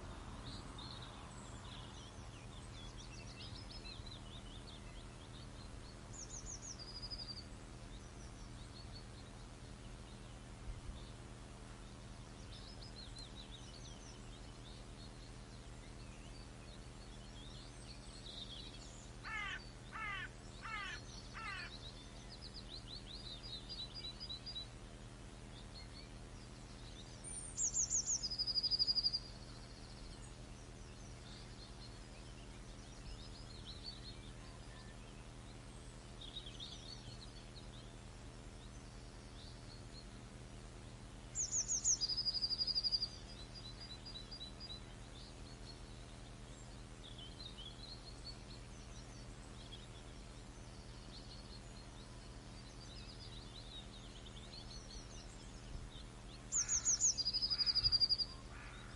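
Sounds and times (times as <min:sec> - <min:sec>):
low background hum: 0:00.0 - 0:58.9
songbirds singing: 0:00.0 - 0:58.9.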